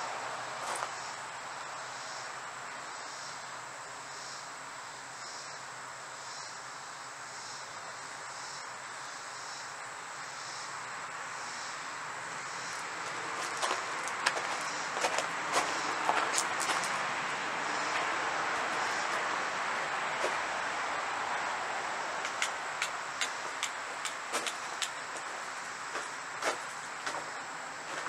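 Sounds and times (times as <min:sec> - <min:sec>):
insects chirping: 0:00.0 - 0:28.0
outdoor hiss: 0:00.0 - 0:28.0.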